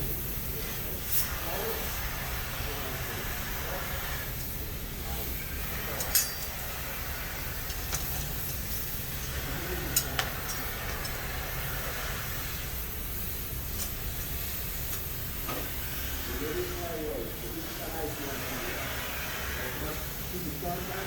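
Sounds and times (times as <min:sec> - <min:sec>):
workshop background hum and hiss: 0:00.0 - 0:21.0.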